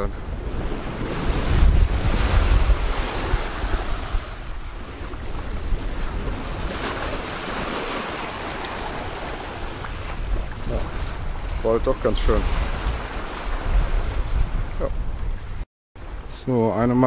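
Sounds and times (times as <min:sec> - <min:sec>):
wind blowing over microphone: 0:00.0 - 0:16.4
water rushing along hull: 0:00.0 - 0:17.0.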